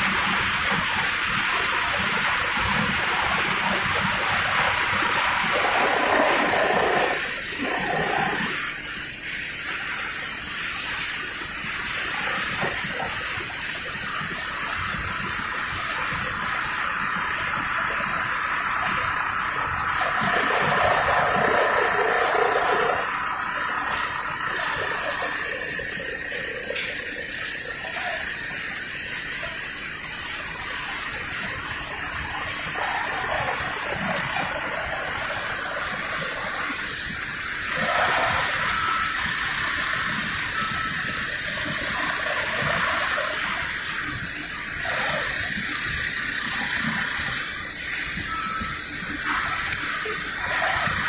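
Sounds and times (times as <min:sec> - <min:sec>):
steel plant hiss and rush: 0:00.0 - 0:51.0.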